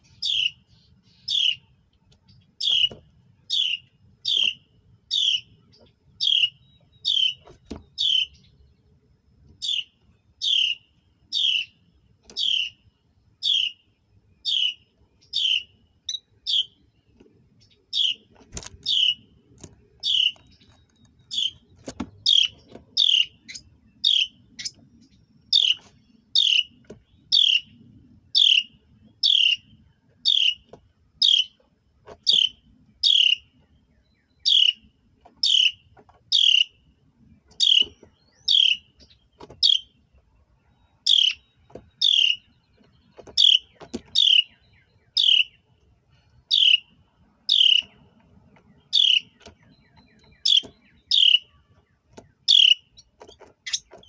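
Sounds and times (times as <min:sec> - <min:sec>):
bird chip calls: 0:00.0 - 0:01.7, 0:02.3 - 0:08.6, 0:09.6 - 0:12.8, 0:13.4 - 0:16.8, 0:17.6 - 0:36.8, 0:37.4 - 0:40.0, 0:40.7 - 0:54.0.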